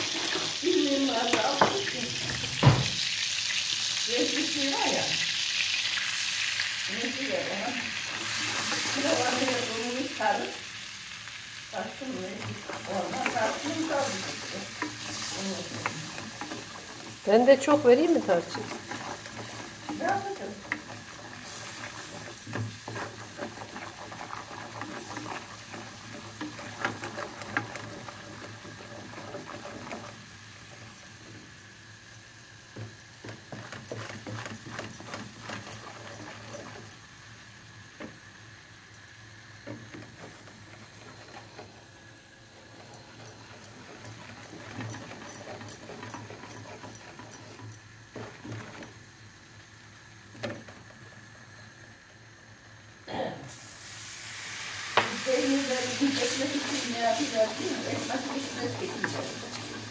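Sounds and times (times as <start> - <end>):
wooden spoon stirring and scraping: 0.0 - 2.8, 6.2 - 10.7, 11.7 - 51.7, 54.9 - 59.9
food bubbling in a pan: 0.0 - 59.9.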